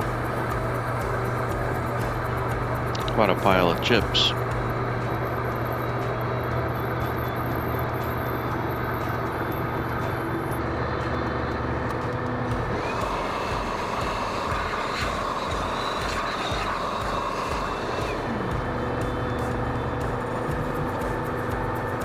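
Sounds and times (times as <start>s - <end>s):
milling machine hum: 0.0s - 22.0s
shop vacuum whine: 0.0s - 22.0s.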